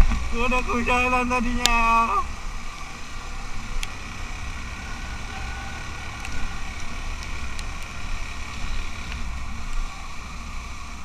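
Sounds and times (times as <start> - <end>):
motorcycle engine hum: 0.0 - 11.0
road noise: 0.0 - 11.0.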